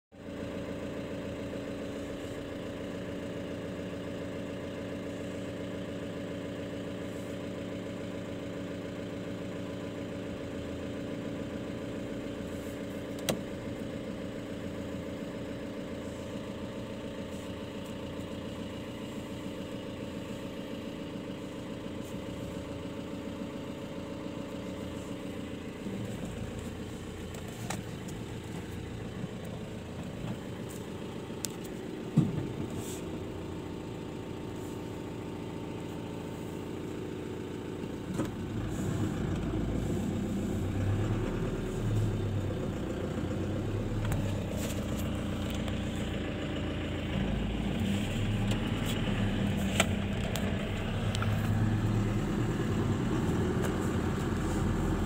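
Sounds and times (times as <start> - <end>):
car engine idling: 0.1 - 55.0.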